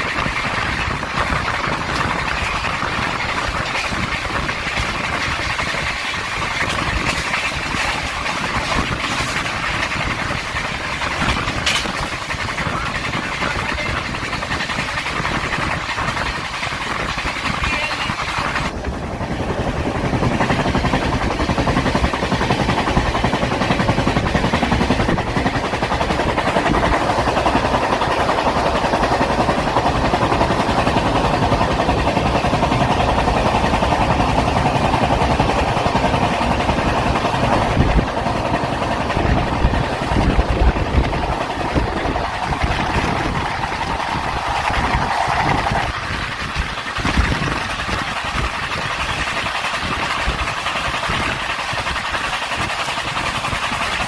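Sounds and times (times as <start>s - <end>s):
passenger train rumbling and rattling: 0.0s - 54.0s
sharp knocks of train: 0.0s - 54.0s.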